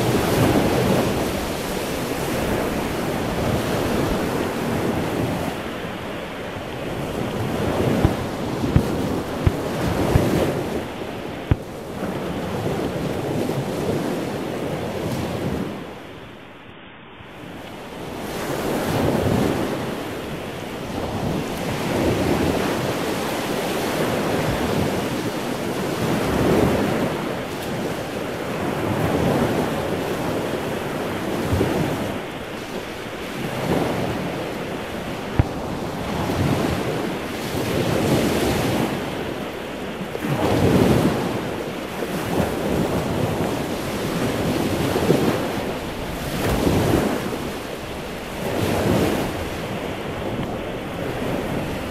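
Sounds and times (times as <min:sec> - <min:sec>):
wind buffeting microphone: 0:00.0 - 0:16.1, 0:17.5 - 0:51.9
sea waves washing onto beach: 0:00.0 - 0:16.6, 0:17.2 - 0:51.9.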